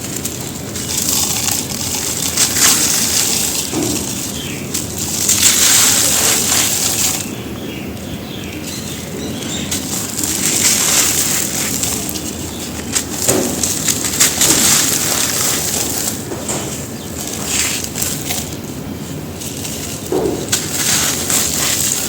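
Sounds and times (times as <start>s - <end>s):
dry dirt crumbling and crunching: 0.0s - 22.0s.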